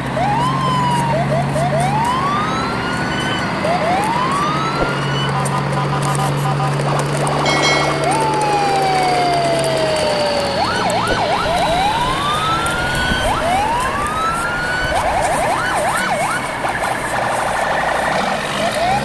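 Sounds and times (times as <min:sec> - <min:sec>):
siren wailing and yelping: 0:00.2 - 0:05.4, 0:07.5 - 0:19.0.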